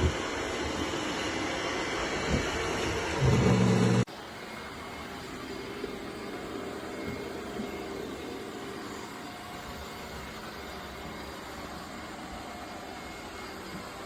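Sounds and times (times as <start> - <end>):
robot vacuum running: 0.0 - 14.0.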